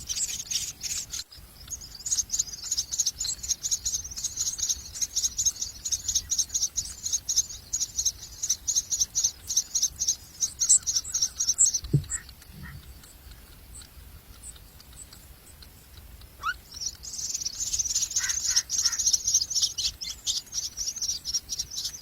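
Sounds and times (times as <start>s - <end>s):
bird chicks begging chirps: 0.0s - 22.0s.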